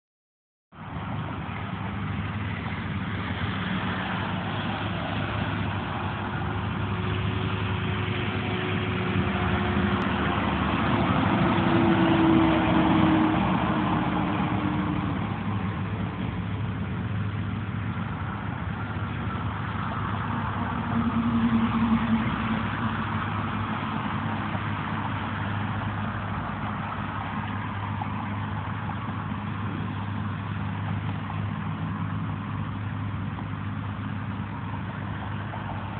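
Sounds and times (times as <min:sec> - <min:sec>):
trucks passing: 0:00.7 - 0:35.9.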